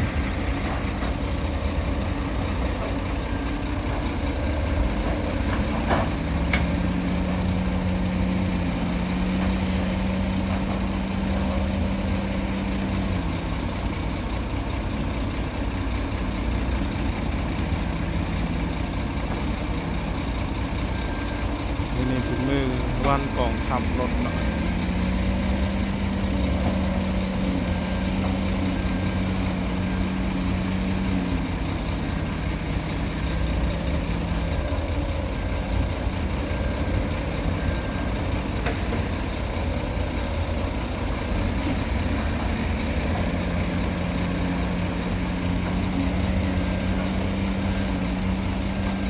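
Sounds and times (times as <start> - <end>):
heavy diesel engines running: 0.0 - 49.0.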